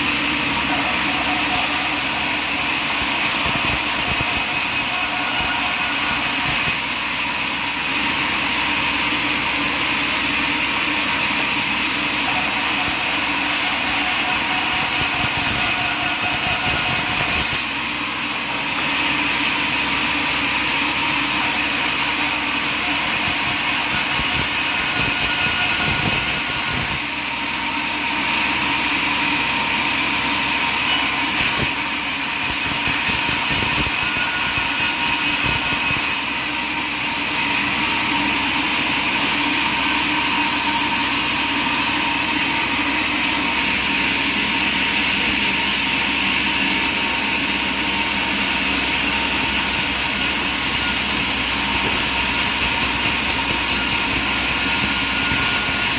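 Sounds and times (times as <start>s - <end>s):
sawmill engine and saw drone: 0.0s - 55.9s.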